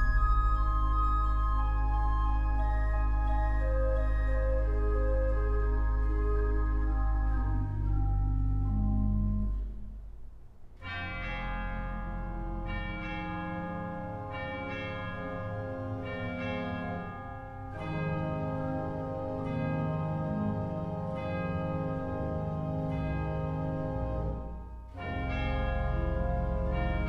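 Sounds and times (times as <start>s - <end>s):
instrumental chords ringing: 0.0s - 10.1s, 10.8s - 27.0s.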